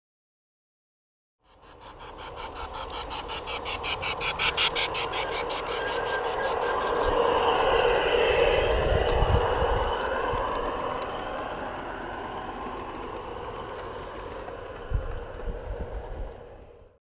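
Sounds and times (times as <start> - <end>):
model train wheels clattering: 1.5 - 16.9
model train whine: 1.5 - 17.0.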